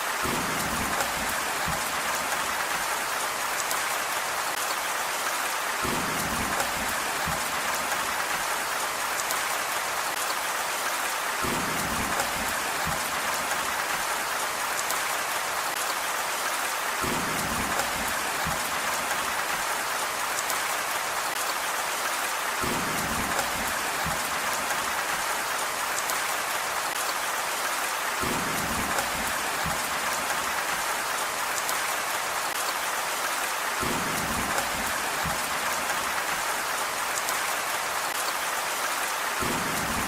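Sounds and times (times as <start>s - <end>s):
steady rain hiss: 0.0s - 40.0s.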